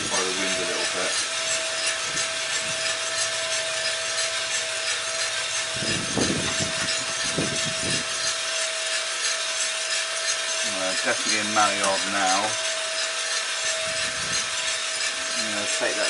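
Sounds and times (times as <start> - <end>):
coffee beans tumbling in roaster: 0.0 - 16.0
machine hum: 0.0 - 16.0
trier scraping through beans: 0.0 - 16.0.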